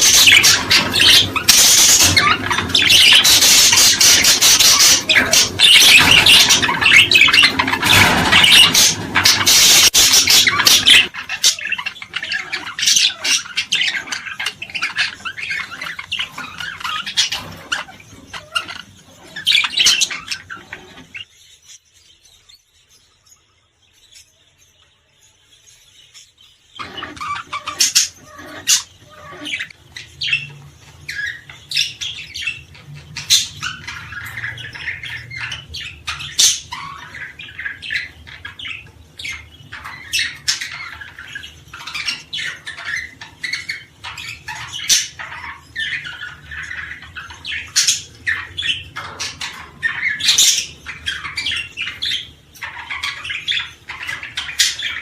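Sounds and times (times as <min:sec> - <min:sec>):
small songbirds chirping: 0:00.0 - 0:55.0.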